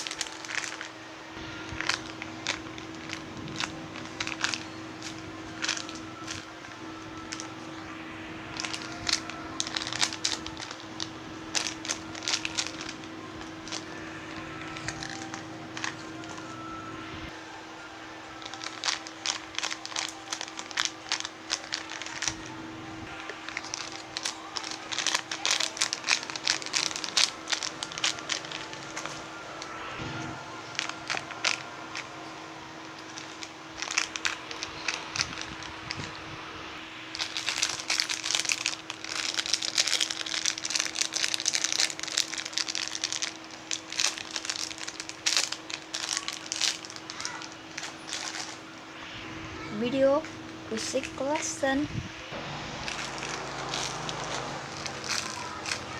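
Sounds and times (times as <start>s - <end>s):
plastic wrapping crinkling: 0.0s - 7.8s, 8.5s - 16.8s, 18.3s - 36.2s, 37.0s - 48.8s, 52.7s - 55.9s.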